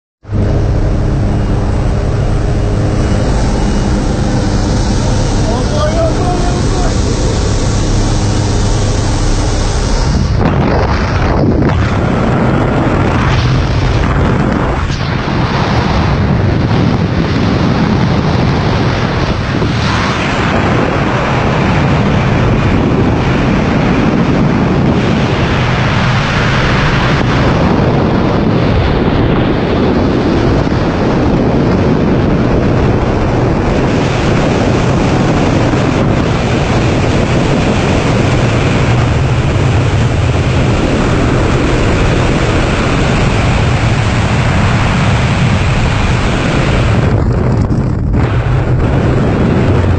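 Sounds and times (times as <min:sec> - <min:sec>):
low steady drone: 0:00.2 - 0:49.9
wind buffeting microphone: 0:00.2 - 0:49.9.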